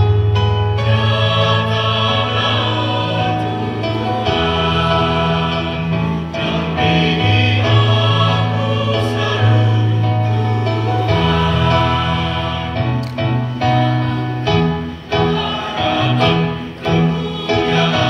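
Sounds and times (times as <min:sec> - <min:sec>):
mixed choir singing: 0:00.6 - 0:18.0.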